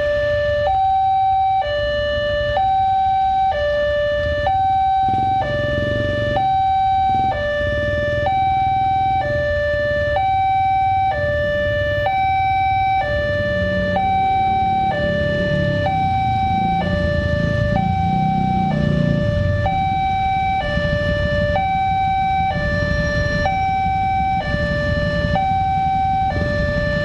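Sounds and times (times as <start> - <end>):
two-tone level crossing alarm: 0.0 - 27.0.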